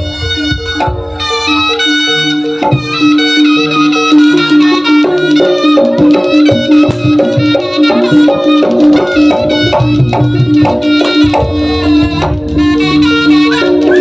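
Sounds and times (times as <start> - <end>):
drums and tuned percussion: 0.0 - 14.0
reedy wind melody: 0.0 - 14.0.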